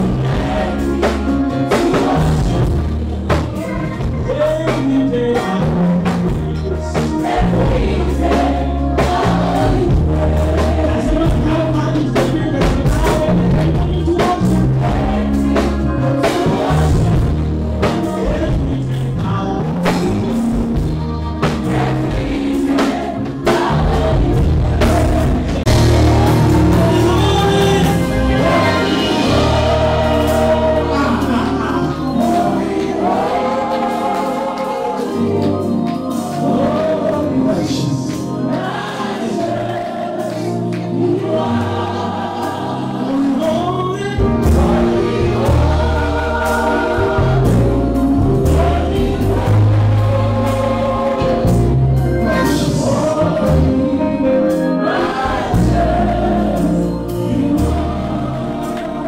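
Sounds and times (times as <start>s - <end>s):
choir singing in harmony: 0.0s - 59.0s
keyboard bass and drums: 0.0s - 59.0s.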